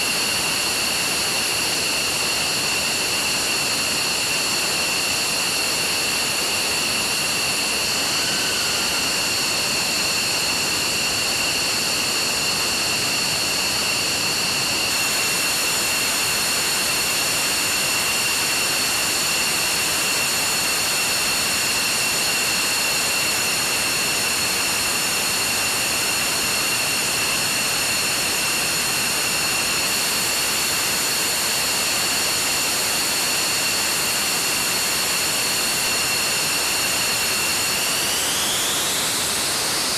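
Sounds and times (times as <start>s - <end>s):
jet engines idling: 0.1s - 39.9s.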